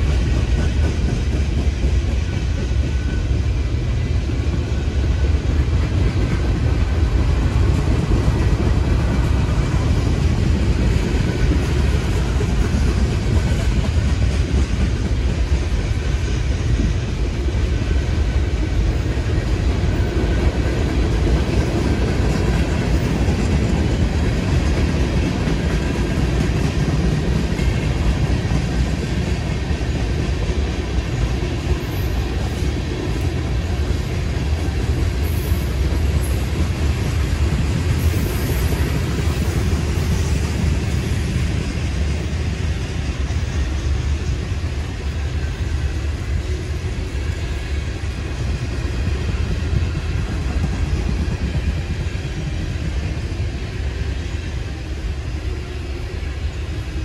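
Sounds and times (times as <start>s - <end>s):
freight train rumbling on rails: 0.0s - 57.0s.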